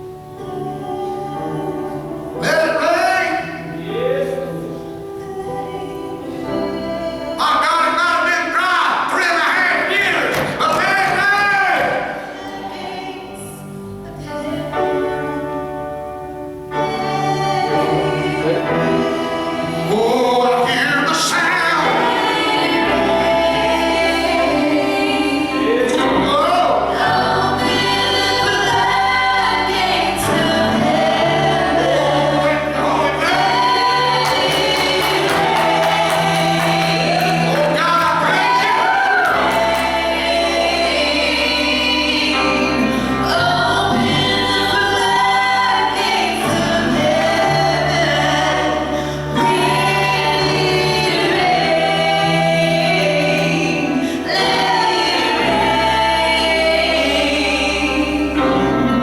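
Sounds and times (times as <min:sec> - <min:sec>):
choir and congregation singing: 0:00.0 - 0:59.0.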